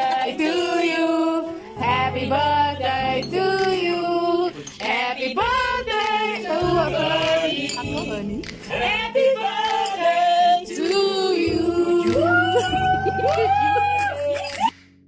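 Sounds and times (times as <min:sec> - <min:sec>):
group of people singing: 0:00.0 - 0:13.6.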